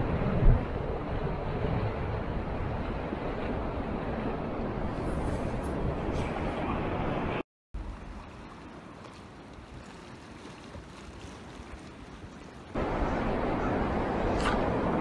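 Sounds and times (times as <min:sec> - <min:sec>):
sea noise: 0:00.0 - 0:15.0
wind: 0:00.0 - 0:15.0.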